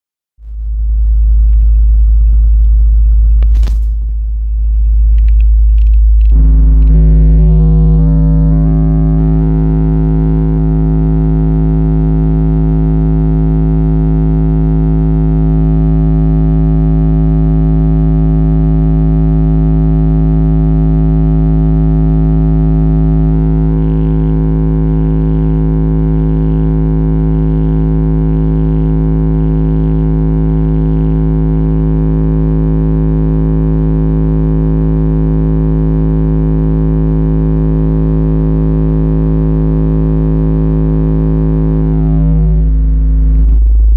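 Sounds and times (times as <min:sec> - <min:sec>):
deep test tone with distortion buzz: 0:00.4 - 0:43.9.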